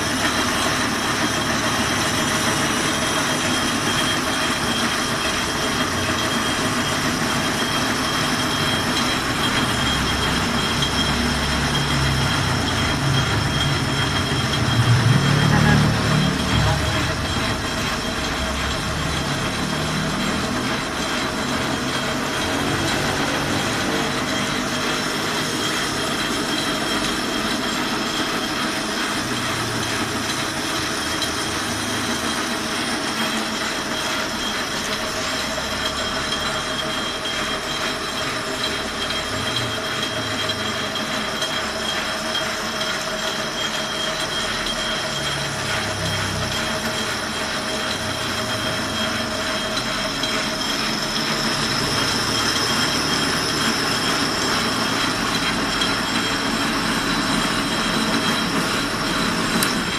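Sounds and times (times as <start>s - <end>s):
metal lathe whining: 0.0s - 59.9s.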